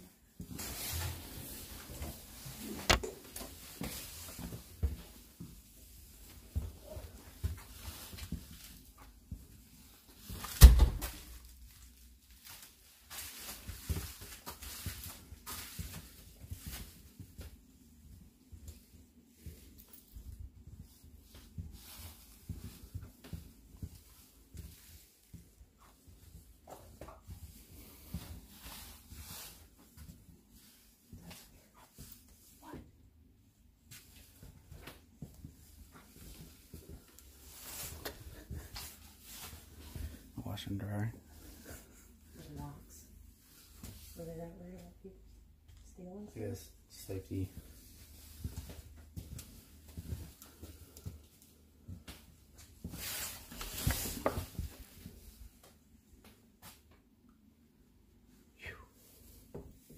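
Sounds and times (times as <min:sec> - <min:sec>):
footsteps in a corridor: 0:00.0 - 0:40.4, 0:41.1 - 0:45.8, 0:47.4 - 0:57.2.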